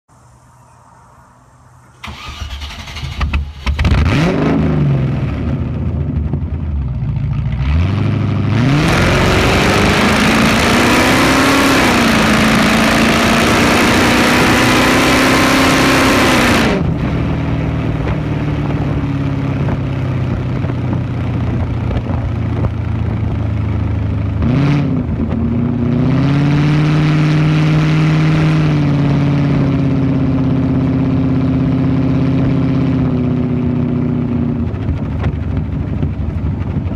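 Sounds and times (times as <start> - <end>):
car exhaust revving: 1.9 - 36.9.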